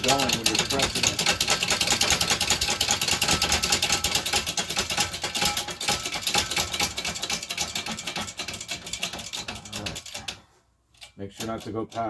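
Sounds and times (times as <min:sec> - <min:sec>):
press clicking and rattling: 0:00.0 - 0:10.4.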